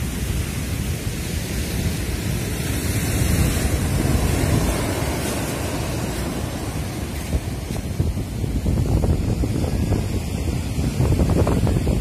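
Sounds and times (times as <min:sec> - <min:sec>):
storm surf rushing: 0:00.0 - 0:12.0
wind on microphone: 0:00.0 - 0:12.0.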